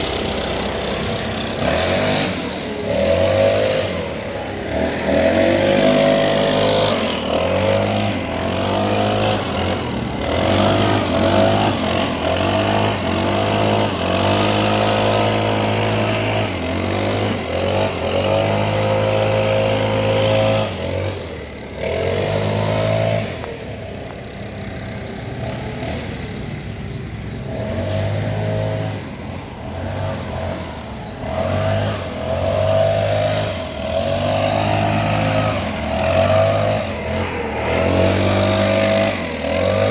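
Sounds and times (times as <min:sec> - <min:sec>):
leaf blower engine revving: 0:00.0 - 0:26.7, 0:27.4 - 0:39.9.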